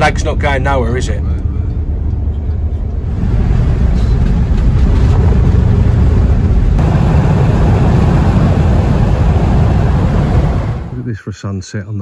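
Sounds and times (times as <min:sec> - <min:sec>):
road and engine noise inside van: 0:00.0 - 0:11.0.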